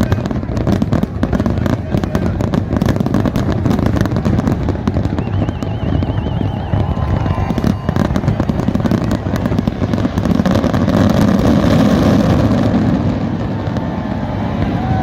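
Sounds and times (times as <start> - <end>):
fireworks crackling bangs: 0.0 - 15.0.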